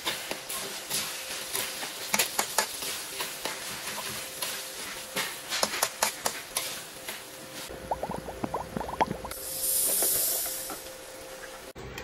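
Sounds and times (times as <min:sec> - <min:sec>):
meat sizzling in a wok: 0:00.0 - 0:08.5, 0:09.2 - 0:11.7.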